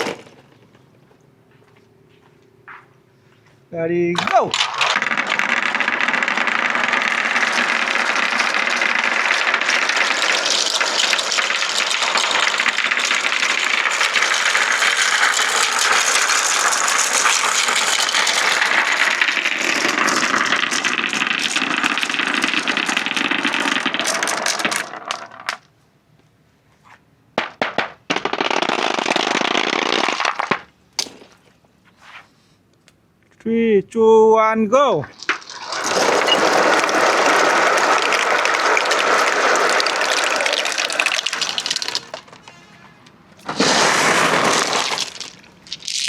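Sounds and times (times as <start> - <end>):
marbles rattling down wooden ramps: 0.0 - 0.8, 4.2 - 25.7, 27.4 - 31.3, 35.1 - 46.0.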